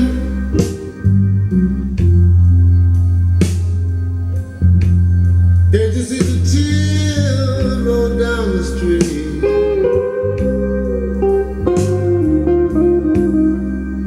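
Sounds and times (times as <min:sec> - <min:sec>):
song with bass drums and guitar: 0:00.0 - 0:14.0.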